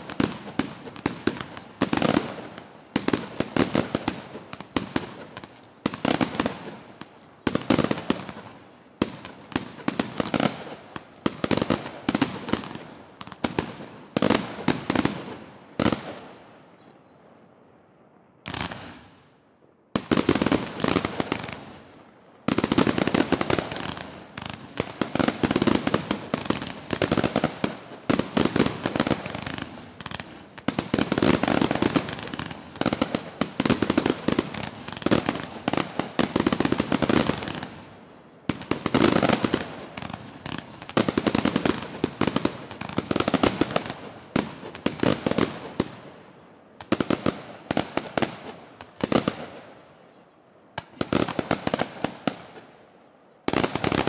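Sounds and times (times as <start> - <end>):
fireworks bangs and crackling: 0.0 - 16.6, 18.4 - 19.3, 19.9 - 49.8, 50.8 - 52.7, 53.5 - 54.0.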